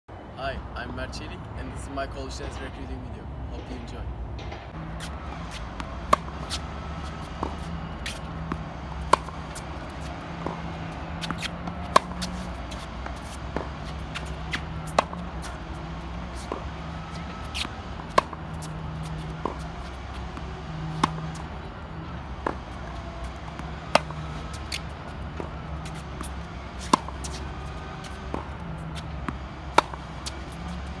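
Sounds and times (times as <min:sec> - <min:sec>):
racket hitting tennis ball: 0:03.5 - 0:31.0.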